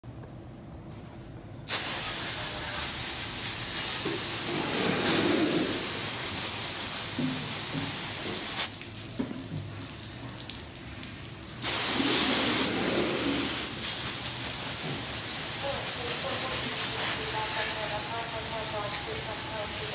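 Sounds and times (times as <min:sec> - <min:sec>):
hose spraying water on metal: 0:01.7 - 0:19.9.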